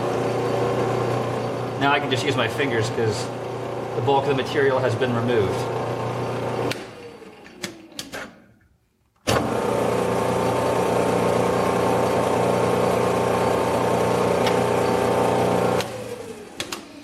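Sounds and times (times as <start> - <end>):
metal lathe motor whine: 0.0 - 7.6, 9.4 - 16.7.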